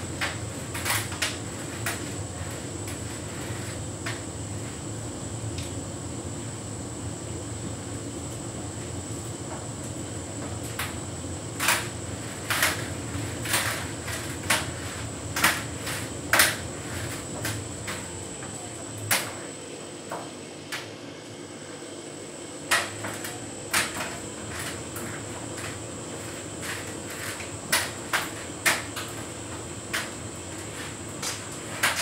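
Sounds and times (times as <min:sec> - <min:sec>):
tumble dryer humming: 0:00.0 - 0:32.0.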